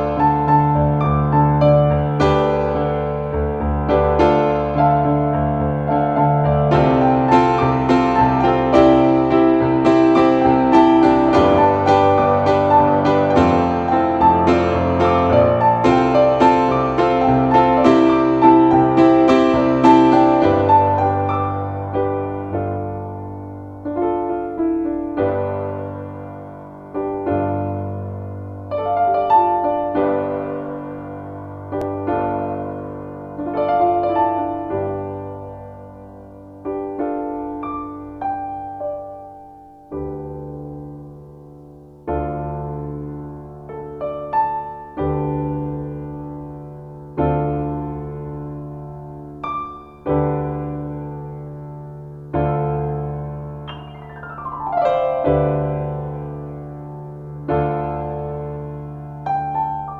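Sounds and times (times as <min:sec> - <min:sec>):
piano notes ringing: 0:00.0 - 0:59.9.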